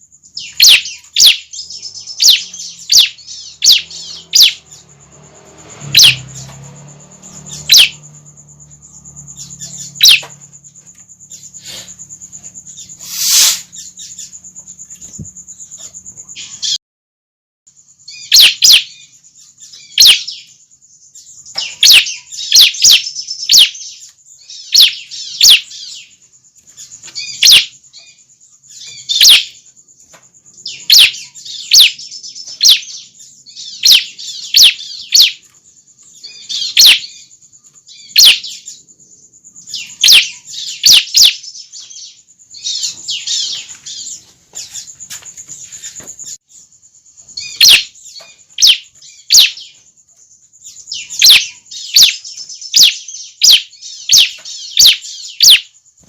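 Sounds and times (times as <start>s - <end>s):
young birds chirping: 0.0s - 16.8s, 17.8s - 56.0s.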